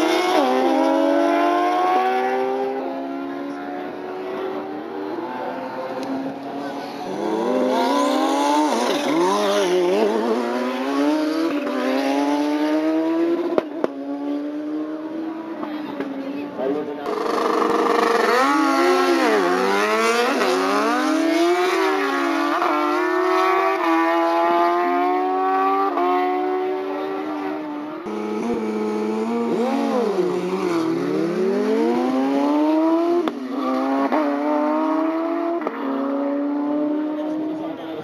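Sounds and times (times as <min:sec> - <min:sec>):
motorcycles accelerating hard: 0:00.0 - 0:38.0.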